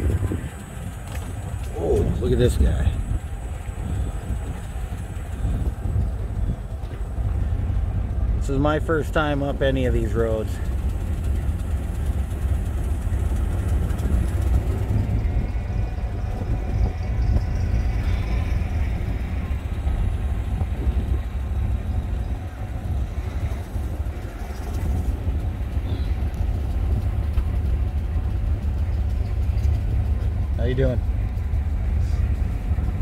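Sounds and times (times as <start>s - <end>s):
vehicle driving rumble: 0.0s - 33.0s.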